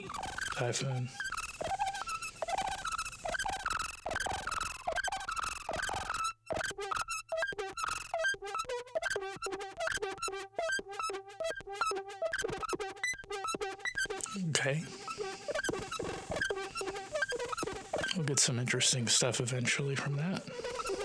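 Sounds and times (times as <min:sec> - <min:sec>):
synthesizer stuttering pitched notes: 0:00.0 - 0:21.0.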